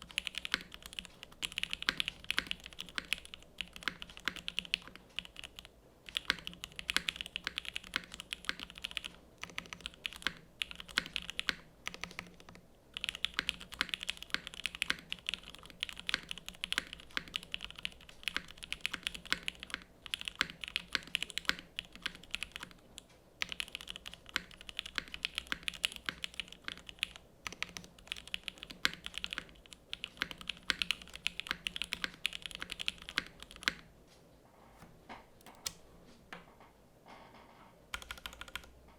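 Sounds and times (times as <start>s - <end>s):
typing on mechanical keyboard: 0.0s - 33.9s, 37.9s - 38.8s.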